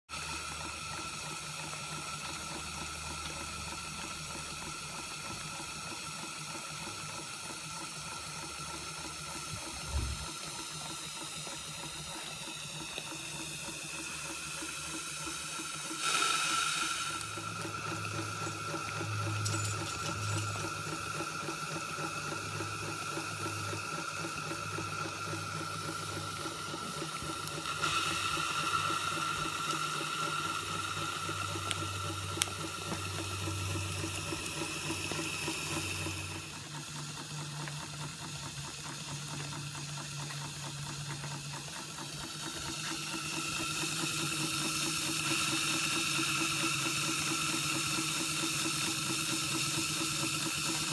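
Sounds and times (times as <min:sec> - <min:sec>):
steam engine fast beat: 0:00.1 - 0:50.9
steam hissing: 0:00.1 - 0:50.9.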